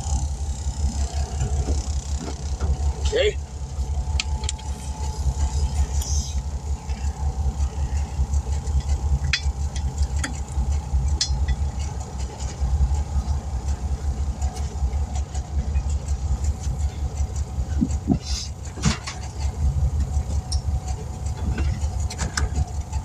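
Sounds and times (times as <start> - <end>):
motor thrumming: 0.0 - 23.0.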